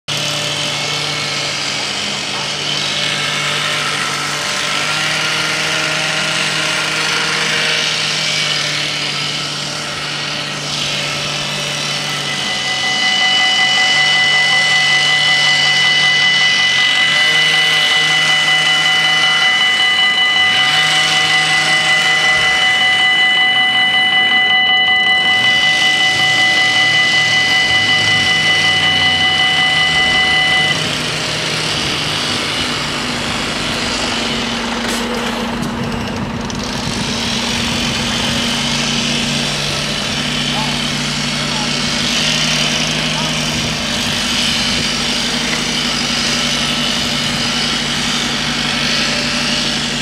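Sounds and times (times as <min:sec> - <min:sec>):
road traffic passing: 0:00.0 - 0:50.0
level crossing warning bells ringing: 0:00.1 - 0:50.0.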